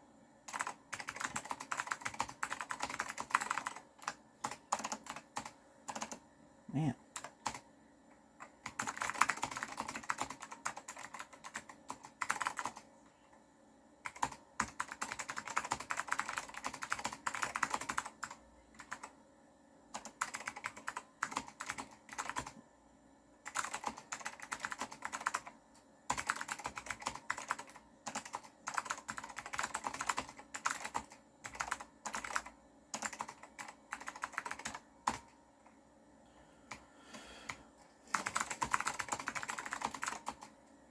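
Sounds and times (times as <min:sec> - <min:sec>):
clicky keyboard typing: 0:00.5 - 0:06.2, 0:08.4 - 0:12.9, 0:14.0 - 0:19.2, 0:19.9 - 0:22.6, 0:23.5 - 0:35.8, 0:37.5 - 0:40.8.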